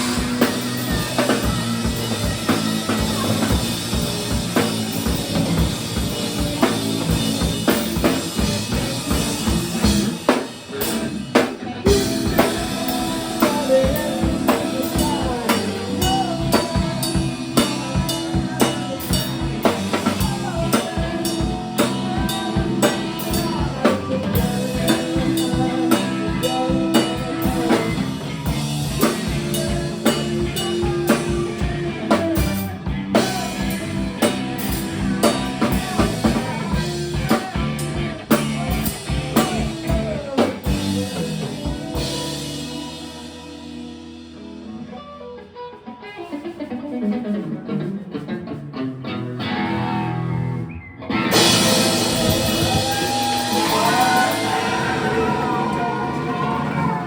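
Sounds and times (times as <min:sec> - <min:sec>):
drum kit beat: 0:00.0 - 0:48.7, 0:51.1 - 0:57.0
punk rock band playing: 0:00.0 - 0:57.0.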